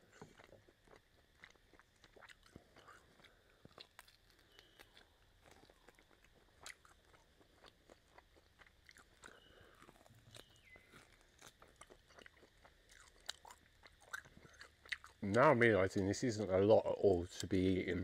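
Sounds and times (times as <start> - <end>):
person chewing meat off bone: 0.0 - 15.4.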